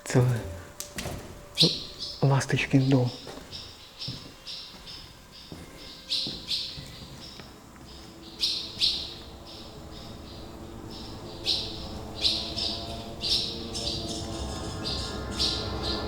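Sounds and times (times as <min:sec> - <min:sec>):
swallows chirping: 0:01.5 - 0:16.0.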